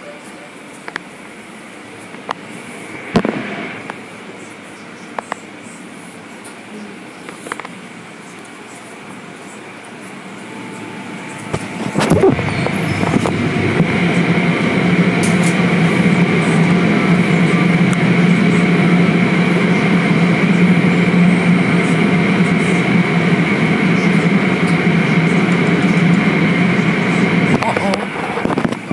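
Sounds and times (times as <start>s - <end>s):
low machinery hum: 0.0s - 28.9s.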